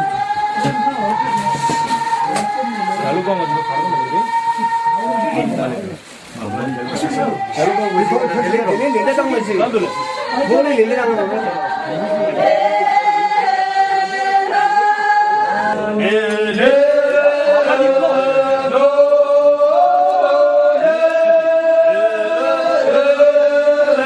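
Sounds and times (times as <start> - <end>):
group singing chant in unison: 0.0 - 24.0.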